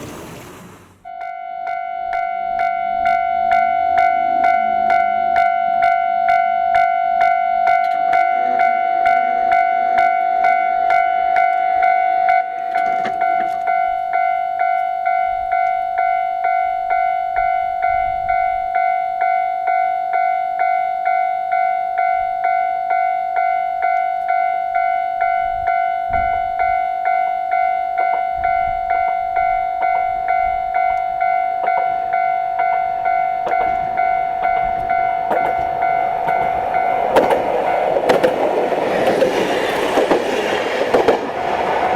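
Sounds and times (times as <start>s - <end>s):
level crossing warning bell: 1.0s - 41.1s.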